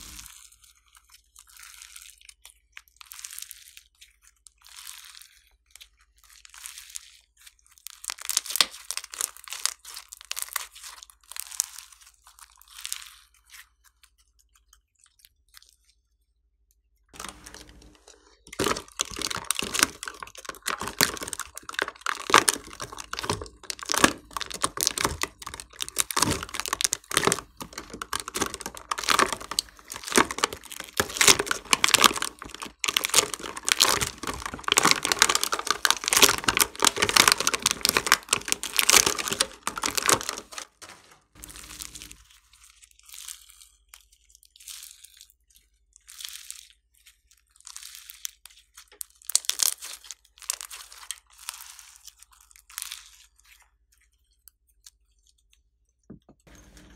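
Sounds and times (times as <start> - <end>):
slime squishing and popping: 1.5 - 15.9, 17.2 - 53.4.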